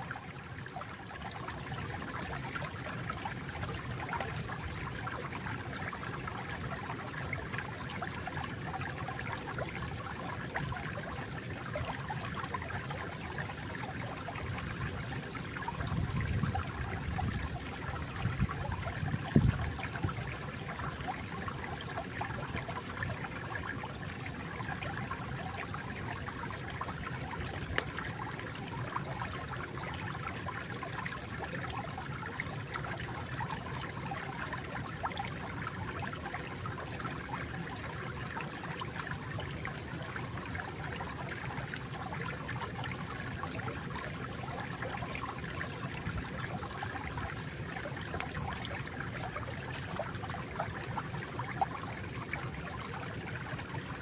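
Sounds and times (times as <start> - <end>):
water flowing: 0.0 - 54.0.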